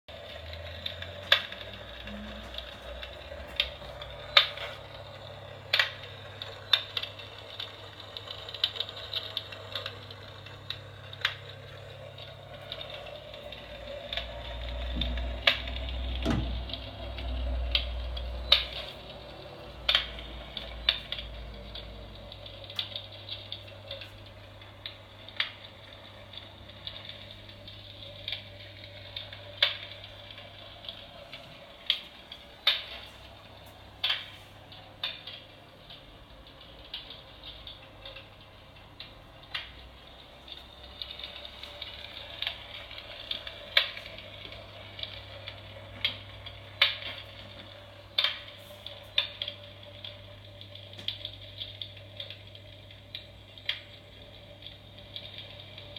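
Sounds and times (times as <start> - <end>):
faint low hum: 0.1 - 55.9
fire crackling sound effect: 0.1 - 55.9.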